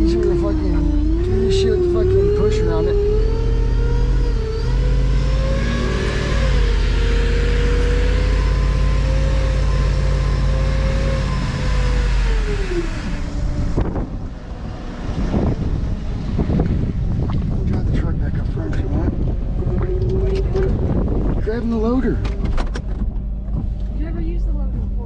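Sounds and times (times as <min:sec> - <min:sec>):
vehicle engine running: 0:00.0 - 0:25.0
wind noise on microphone: 0:00.0 - 0:25.0.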